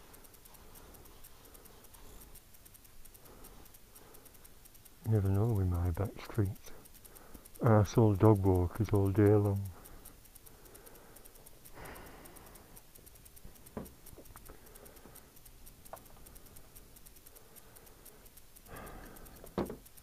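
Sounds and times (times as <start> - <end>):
faint rustling: 0.0 - 20.0
fine fast ticking: 0.0 - 20.0
light clicks and taps: 0.0 - 20.0.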